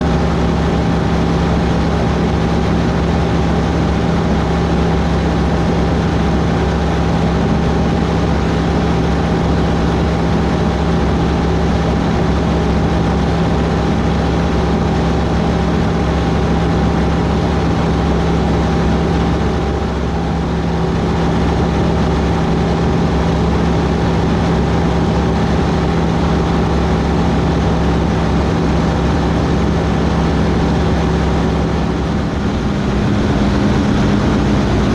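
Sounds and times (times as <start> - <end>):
light aircraft engine and propeller drone: 0.0 - 34.9.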